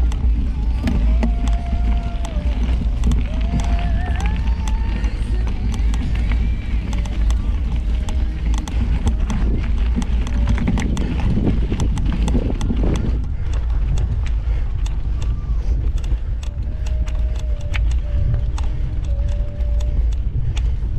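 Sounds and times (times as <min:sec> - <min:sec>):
bike clicks and rattles: 0:00.0 - 0:20.9
wind rumble on microphone: 0:00.0 - 0:20.9.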